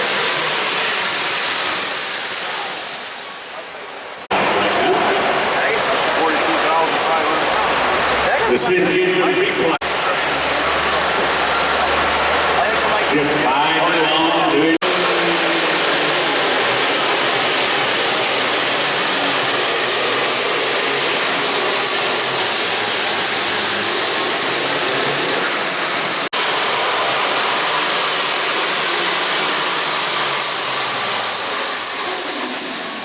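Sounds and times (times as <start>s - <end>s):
tractor engine at full throttle: 0.0s - 9.0s, 9.8s - 33.0s.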